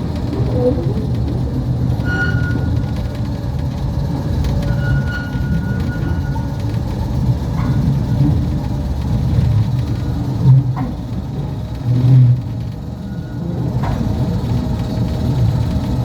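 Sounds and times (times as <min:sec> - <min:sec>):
electric train rumbling on track: 0:00.0 - 0:16.0.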